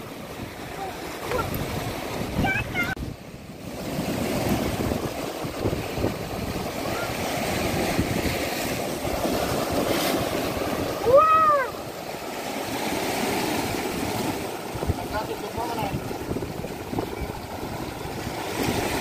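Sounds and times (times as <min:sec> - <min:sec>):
surf breaking over rocks: 0:00.0 - 0:19.0.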